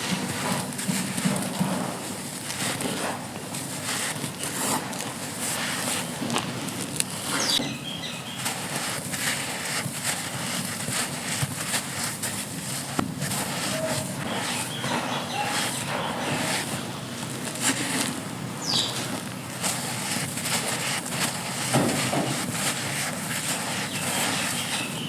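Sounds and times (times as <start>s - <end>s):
dry sand crunching: 0.0s - 25.0s.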